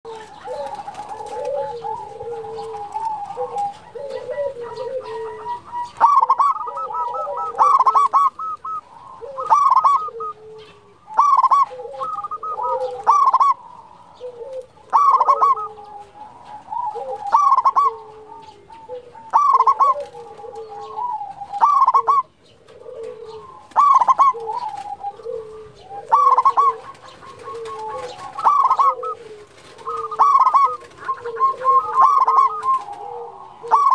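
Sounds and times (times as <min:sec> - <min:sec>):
dove cooing song: 0:00.1 - 0:33.9
soft dove cooing: 0:00.1 - 0:33.9.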